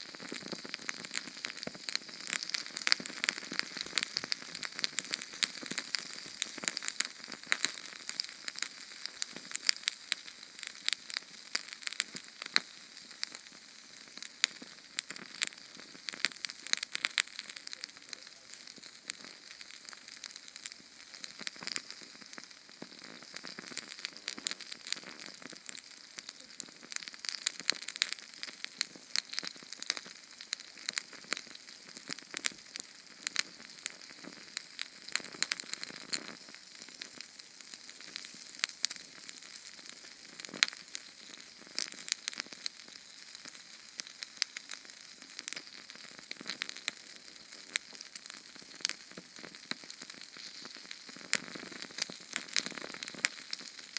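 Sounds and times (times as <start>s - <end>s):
flame hissing and crackling: 0.0s - 53.9s.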